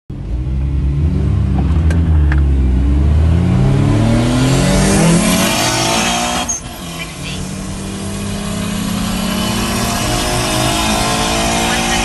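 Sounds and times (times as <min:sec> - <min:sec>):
car engine accelerating: 0:00.1 - 0:12.0.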